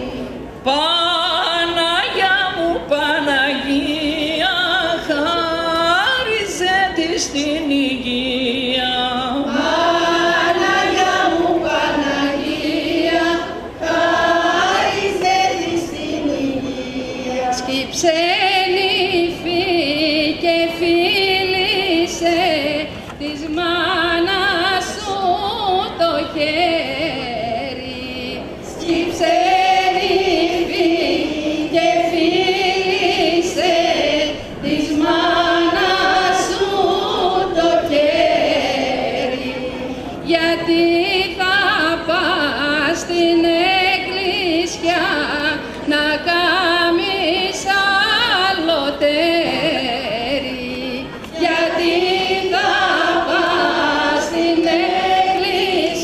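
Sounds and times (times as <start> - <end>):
women singing: 0.0 - 56.0.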